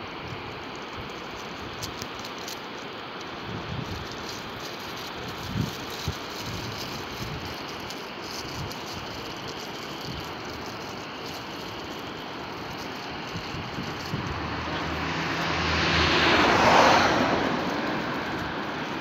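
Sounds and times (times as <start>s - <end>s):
wind on microphone: 3.4s - 19.0s.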